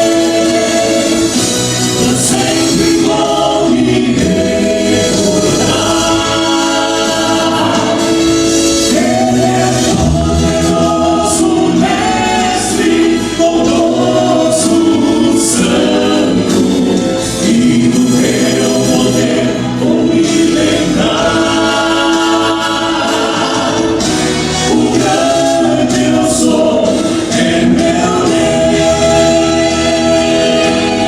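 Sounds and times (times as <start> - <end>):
vocal quartet singing gospel: 0.0 - 31.0.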